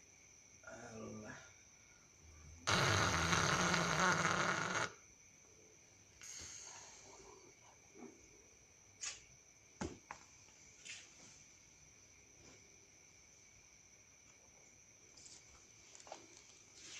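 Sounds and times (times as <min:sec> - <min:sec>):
crickets chirring: 0:00.0 - 0:16.9.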